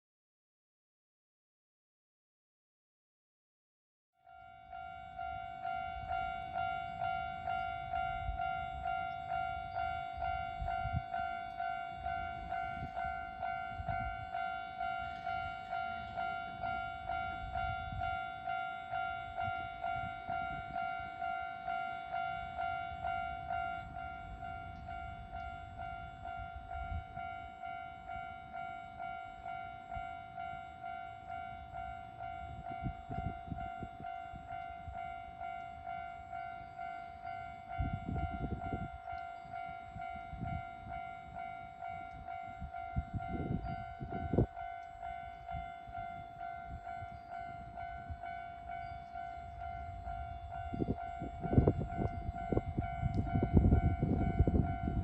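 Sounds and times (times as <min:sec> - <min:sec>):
level-crossing warning bell: 0:04.2 - 0:55.0
electric train rumbling: 0:04.3 - 0:55.0.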